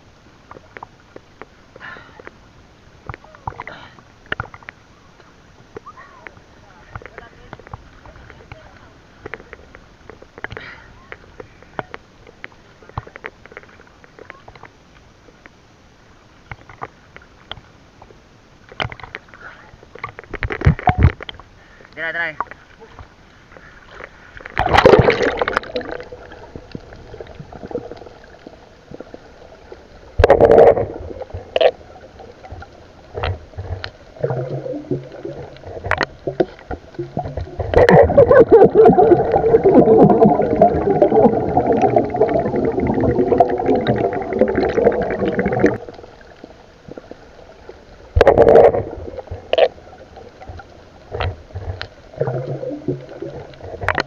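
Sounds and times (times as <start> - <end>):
underwater bubbling and rushing water: 0.0 - 54.0.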